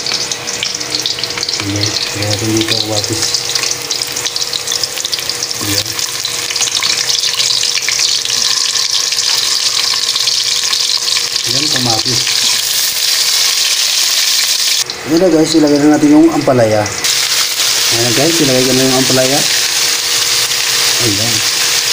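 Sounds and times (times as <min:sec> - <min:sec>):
vegetables sizzling in hot oil: 0:00.0 - 0:21.9.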